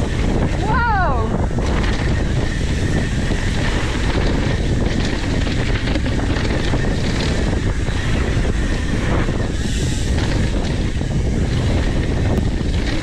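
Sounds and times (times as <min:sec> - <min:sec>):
bike rattling: 0:00.0 - 0:13.0
bike tyre noise: 0:00.0 - 0:13.0
wind rushing over microphone: 0:00.0 - 0:13.0.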